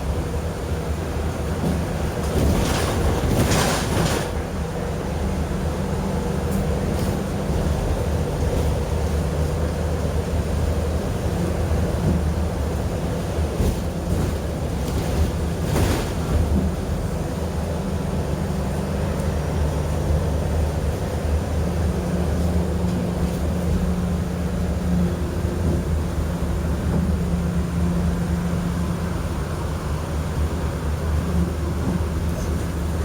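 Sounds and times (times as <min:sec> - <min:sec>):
bus engine hum: 0:00.0 - 0:33.0.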